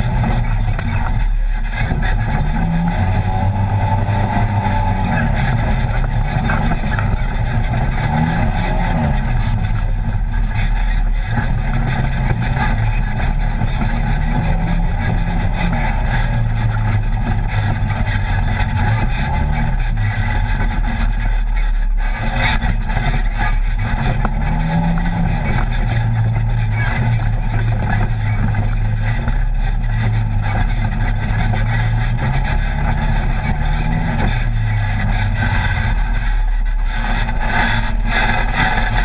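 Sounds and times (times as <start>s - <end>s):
steady rushing noise: 0.0s - 39.0s
utility vehicle engine running: 0.0s - 39.0s.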